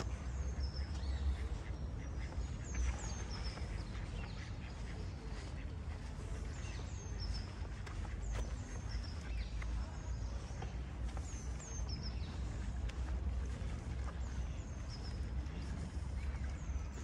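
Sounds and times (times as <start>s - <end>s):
birds chirping: 0.0s - 17.0s
low town rumble: 0.0s - 17.0s.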